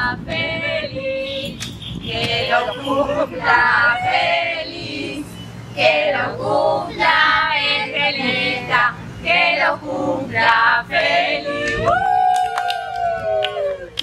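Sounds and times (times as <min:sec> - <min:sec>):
several voices singing together: 0:00.0 - 0:12.1.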